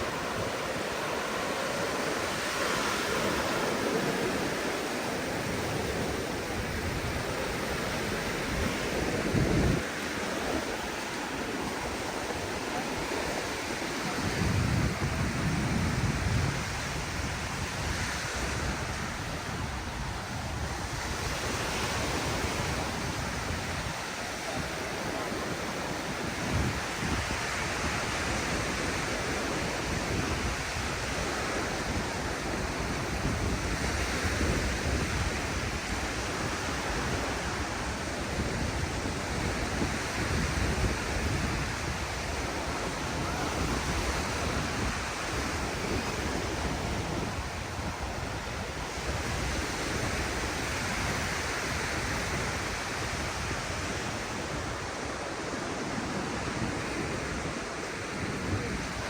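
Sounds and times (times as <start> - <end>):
surf breaking on beach: 0.0 - 59.0
wind rumble on microphone: 0.0 - 59.0.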